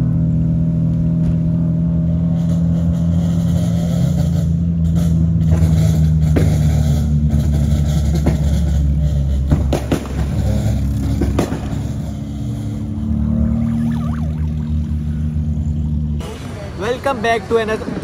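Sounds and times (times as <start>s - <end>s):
car engine cruising: 0.0s - 18.0s
road noise: 0.0s - 18.0s.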